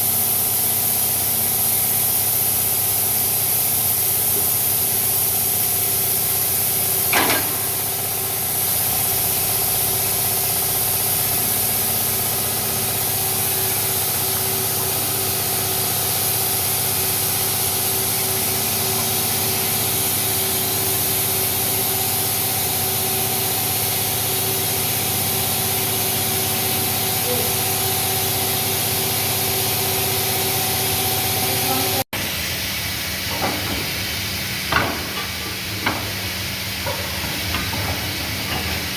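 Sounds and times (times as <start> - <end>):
engine running: 4.3 - 38.9.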